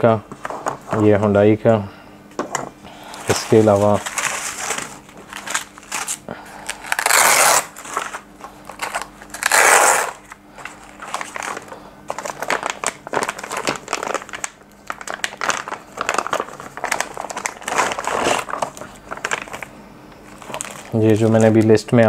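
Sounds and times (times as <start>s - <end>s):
plastic bag crinkling: 3.3s - 21.7s.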